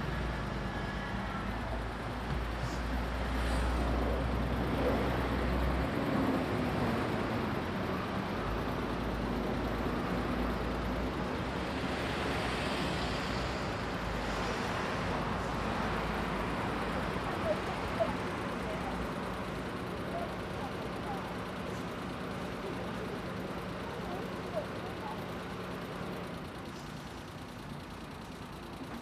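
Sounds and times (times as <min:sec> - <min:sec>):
street traffic: 0:00.0 - 0:29.0
vehicle engine running: 0:00.0 - 0:29.0.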